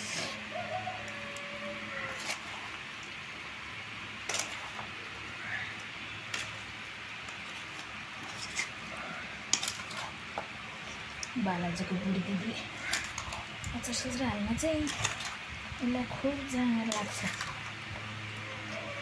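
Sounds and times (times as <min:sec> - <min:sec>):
pickle squishing while stirred: 0:00.0 - 0:03.2, 0:04.1 - 0:05.0, 0:05.6 - 0:11.4, 0:12.0 - 0:19.0.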